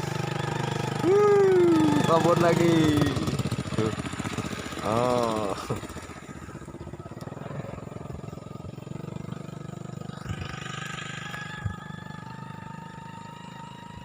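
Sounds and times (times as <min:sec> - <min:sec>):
small petrol engine running: 0:00.0 - 0:14.0.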